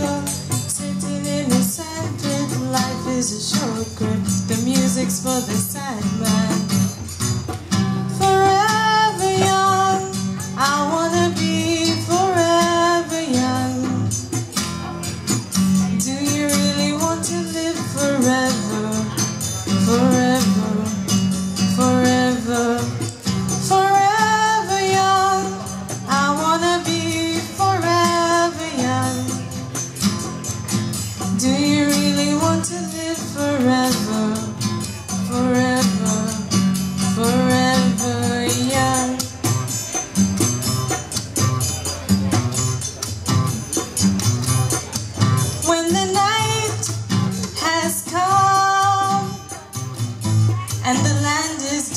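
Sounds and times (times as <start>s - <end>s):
woman singing: 0.0s - 7.0s, 7.7s - 14.2s, 15.8s - 29.8s, 31.1s - 39.6s, 45.5s - 49.8s, 50.4s - 51.9s
guitar: 0.0s - 51.9s.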